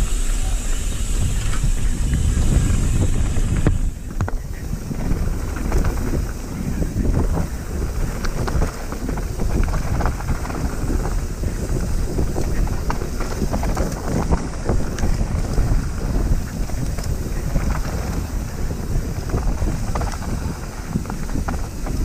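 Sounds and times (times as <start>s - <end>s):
bike rattles and knocks: 0.0s - 22.0s
tyres rumbling on dirt: 0.0s - 22.0s
wind buffeting microphone: 0.0s - 22.0s.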